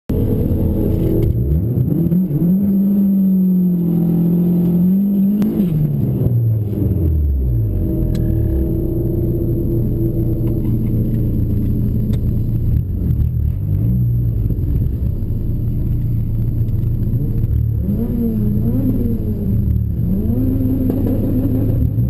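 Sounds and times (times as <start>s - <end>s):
drag car engine revving: 0.1s - 22.0s.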